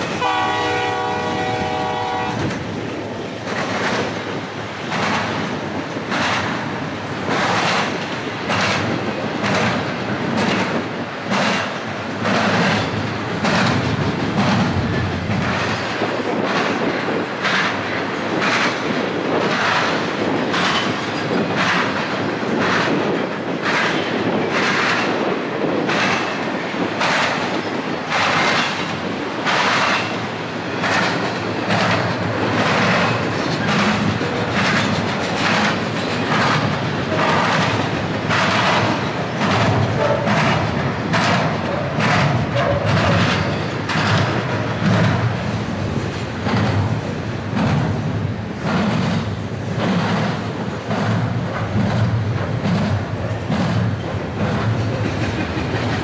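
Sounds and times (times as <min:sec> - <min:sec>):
clickety-clack of wheels on track: 0:00.0 - 0:56.0
train rumbling past: 0:00.0 - 0:56.0.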